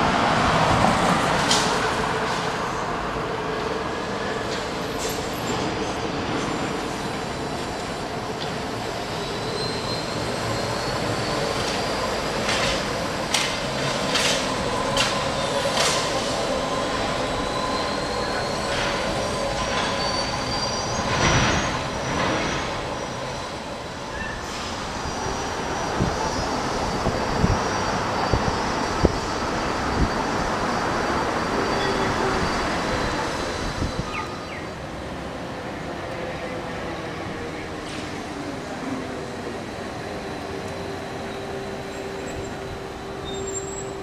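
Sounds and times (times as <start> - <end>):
electric vehicle whine and squeal: 4.1 - 34.8, 36.4 - 44.0.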